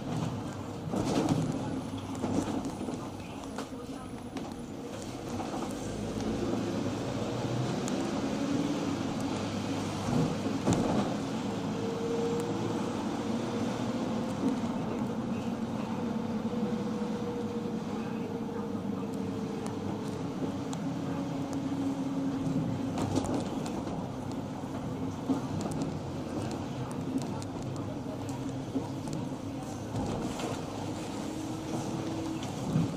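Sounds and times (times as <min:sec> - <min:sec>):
engine and road rumble: 0:00.0 - 0:32.9.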